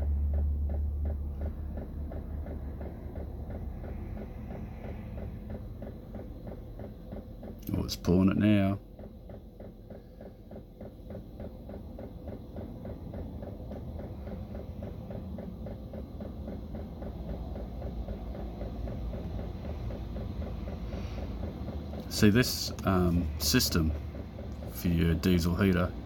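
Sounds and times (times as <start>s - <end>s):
fast regular ticking: 0.0s - 26.0s
heater fan humming: 0.0s - 26.0s.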